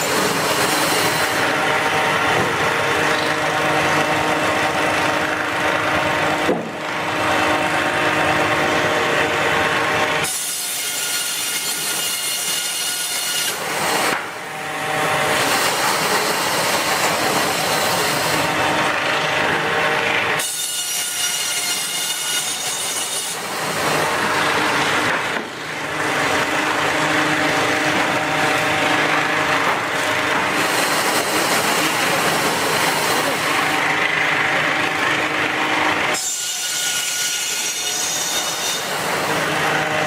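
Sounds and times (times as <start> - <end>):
power saw cutting wood: 0.0 - 40.0.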